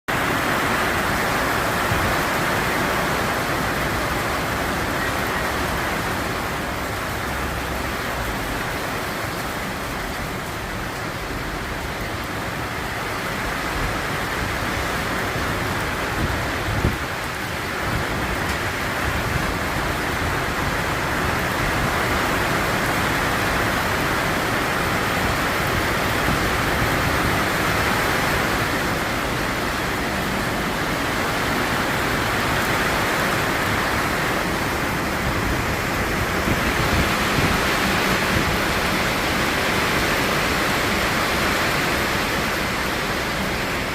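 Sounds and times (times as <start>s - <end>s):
rain falling: 0.1s - 43.9s.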